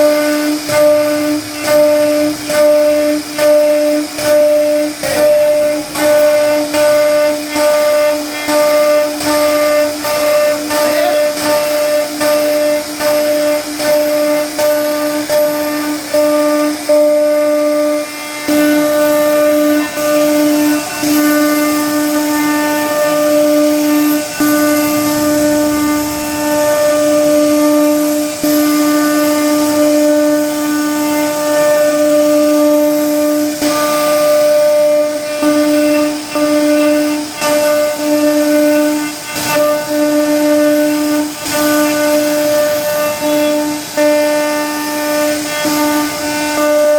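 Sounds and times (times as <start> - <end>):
hiss of wood cutting: 0.0 - 46.9
router spindle whining: 0.0 - 46.9.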